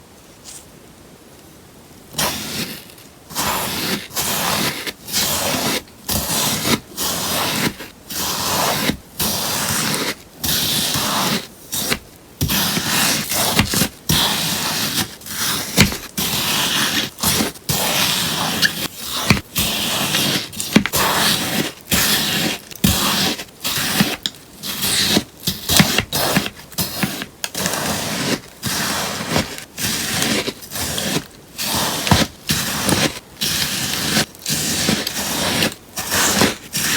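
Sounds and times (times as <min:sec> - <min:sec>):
sponge being cut: 0:02.2 - 0:36.9.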